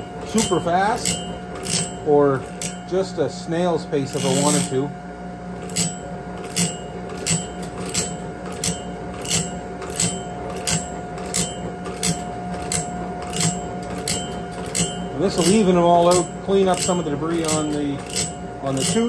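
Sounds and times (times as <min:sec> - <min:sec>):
grinding wheel rasping strokes: 0:00.0 - 0:04.9, 0:05.6 - 0:19.0
motor and grinding wheel whine: 0:00.0 - 0:19.0.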